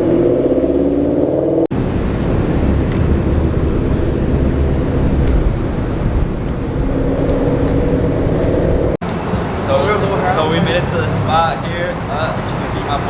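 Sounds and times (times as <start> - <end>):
car driving rumble: 0.0 - 13.0
car engine rising tone: 0.0 - 13.0.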